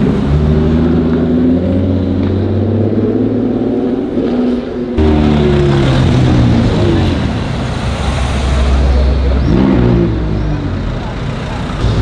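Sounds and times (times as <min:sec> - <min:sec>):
loud sports car engine: 0:00.0 - 0:12.0.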